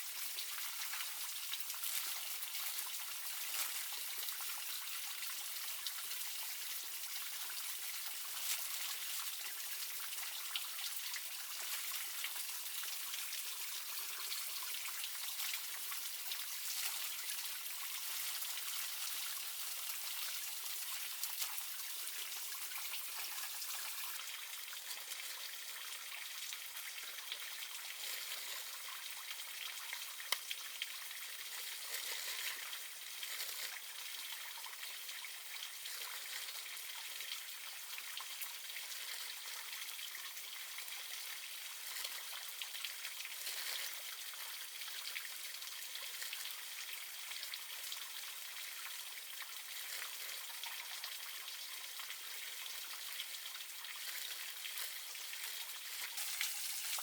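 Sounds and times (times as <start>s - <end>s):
water patter and trickle: 0.0s - 57.0s.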